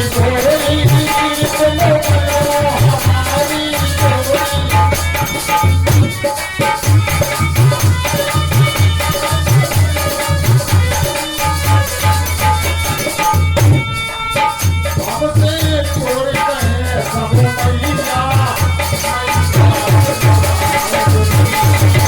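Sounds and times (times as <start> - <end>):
deep drum beating: 0.0 - 17.8
held melody line: 0.0 - 22.0.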